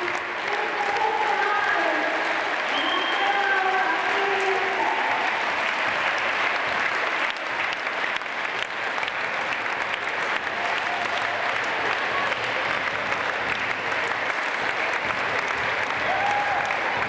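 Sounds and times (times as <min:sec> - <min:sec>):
crowd clapping: 0:00.0 - 0:17.0.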